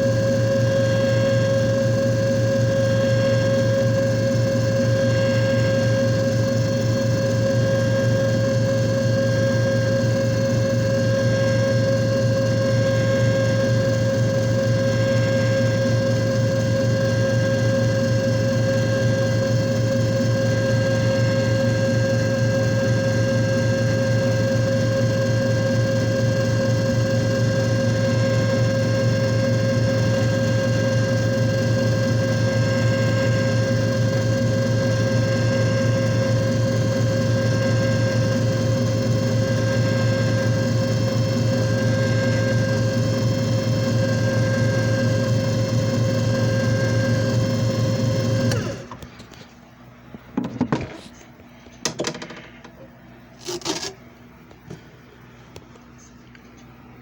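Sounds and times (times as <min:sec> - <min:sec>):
machine motor hum: 0:00.0 - 0:51.2.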